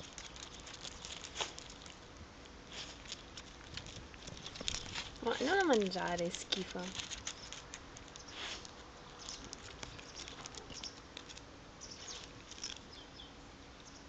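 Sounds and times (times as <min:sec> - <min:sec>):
dog paws clicking on stone: 0:00.0 - 0:13.2.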